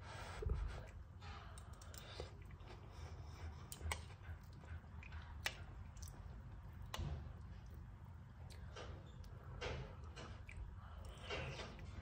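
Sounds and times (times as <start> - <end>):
person chewing quietly: 0.2 - 12.0.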